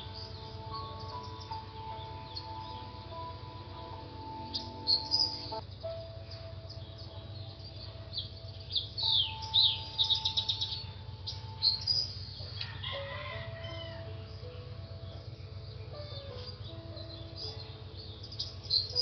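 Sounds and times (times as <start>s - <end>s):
bird trilling: 0.0s - 19.0s
small birds chirping: 0.0s - 19.0s.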